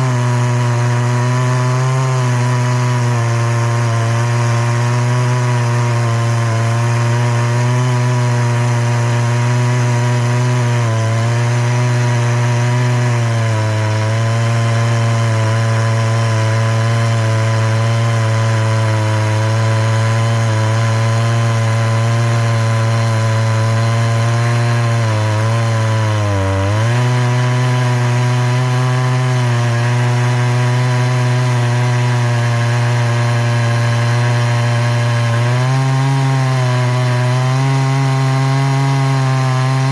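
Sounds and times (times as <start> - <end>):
chainsaw milling wood: 0.0 - 39.9.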